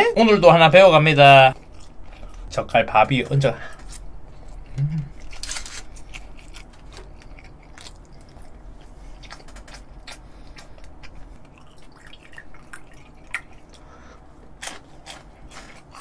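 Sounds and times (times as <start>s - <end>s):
wet chewing mouth sounds: 1.5s - 2.5s, 3.8s - 16.0s.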